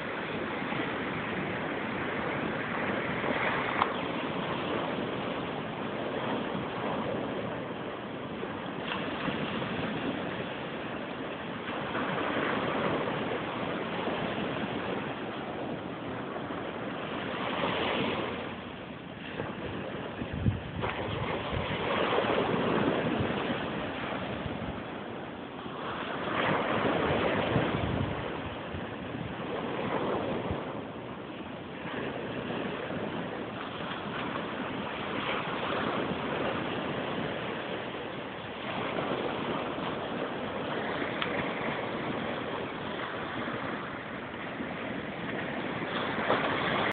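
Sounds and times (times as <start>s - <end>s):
ocean surf rushing: 0.0s - 46.9s.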